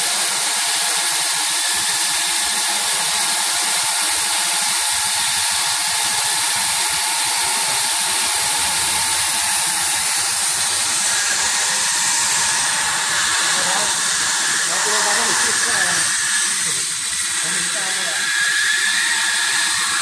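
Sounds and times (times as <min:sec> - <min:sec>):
hot air welder hissing: 0:00.0 - 0:20.0.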